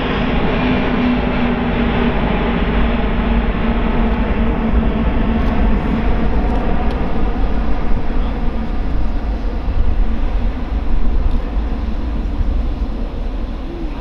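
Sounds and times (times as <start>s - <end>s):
jet airliner rumble: 0.0s - 14.0s.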